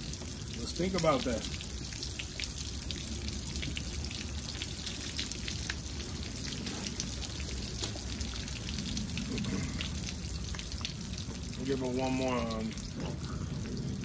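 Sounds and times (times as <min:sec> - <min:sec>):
water dripping and splashing: 0:00.0 - 0:14.0
water pouring from hose: 0:00.0 - 0:14.0.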